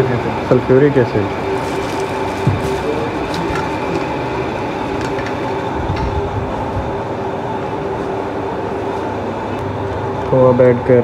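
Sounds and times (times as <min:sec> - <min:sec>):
electric machine hum with whine: 0:00.0 - 0:11.0.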